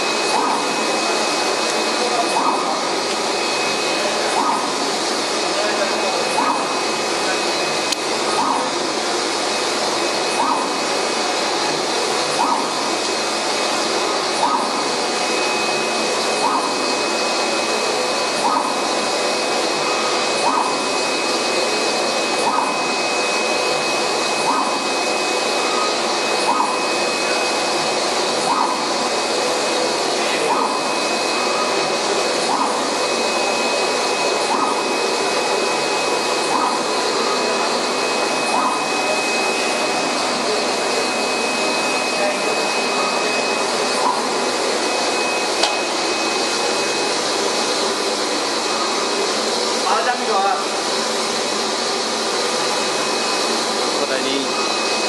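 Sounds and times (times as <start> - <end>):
constant high whine: 0.0 - 55.0
printer blowers and fans whooshing: 0.0 - 55.0.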